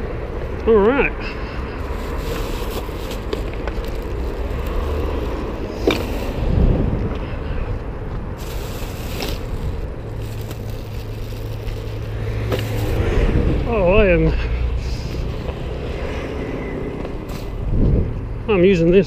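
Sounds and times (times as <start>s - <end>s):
stroller wheels rumbling on pavement: 0.0s - 18.1s
road traffic: 0.0s - 19.0s.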